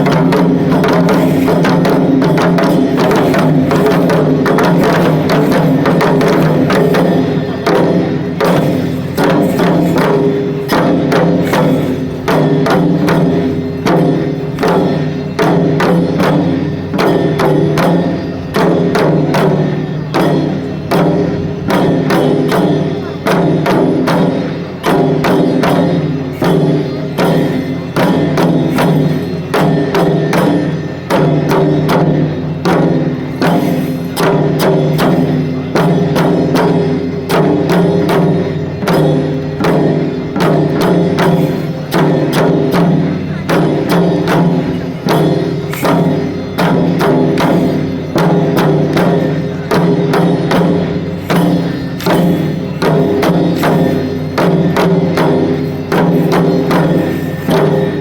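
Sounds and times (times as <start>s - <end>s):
taiko drumming: 0.0s - 58.0s.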